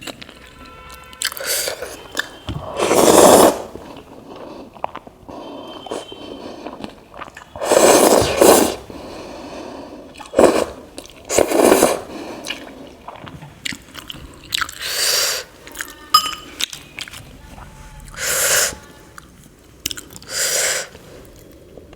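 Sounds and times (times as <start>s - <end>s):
chewing and mouth sounds: 0.0s - 2.6s, 3.7s - 9.0s, 10.1s - 21.9s.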